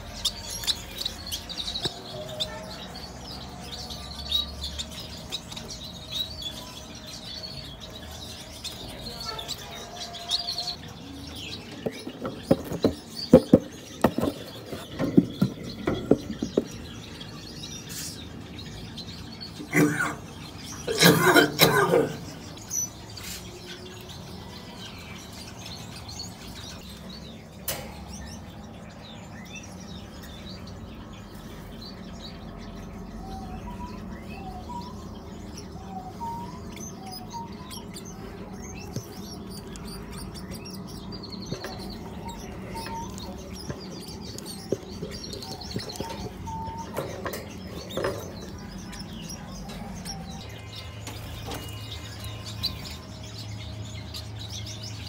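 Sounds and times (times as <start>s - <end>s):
cage birds chirping: 0.0s - 55.0s.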